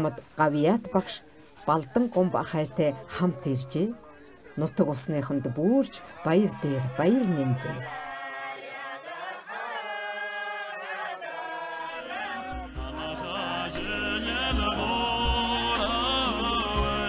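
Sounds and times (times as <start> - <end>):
voices singing in unison: 0.0 - 17.0.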